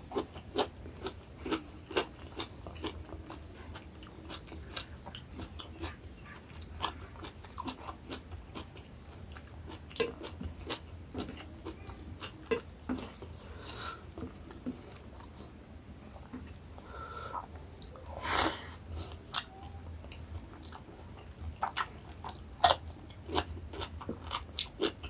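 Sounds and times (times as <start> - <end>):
person chewing: 0.0 - 15.5, 16.2 - 25.0.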